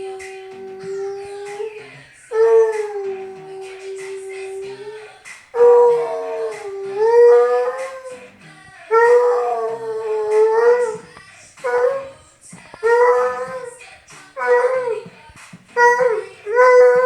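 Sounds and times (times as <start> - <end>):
dog howling: 0.0 - 8.3, 8.9 - 12.2, 12.8 - 13.8, 14.4 - 15.1, 15.8 - 17.0
song playing: 0.0 - 17.0.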